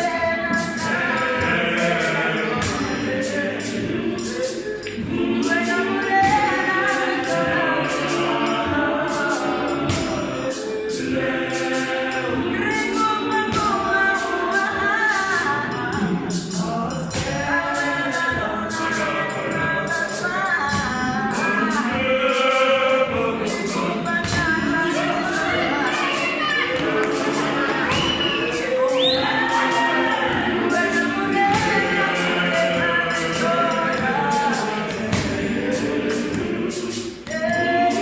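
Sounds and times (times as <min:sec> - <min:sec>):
gospel choir singing: 0:00.0 - 0:38.0
jingling percussion beat: 0:00.0 - 0:38.0.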